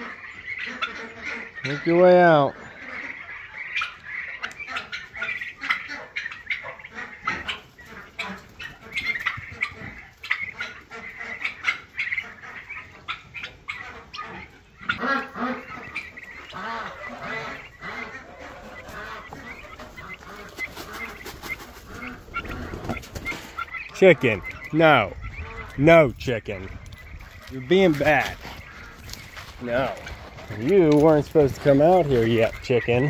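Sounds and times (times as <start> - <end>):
fowl peeping and squawking: 0.0 - 33.0
lower fowl calls: 0.0 - 33.0.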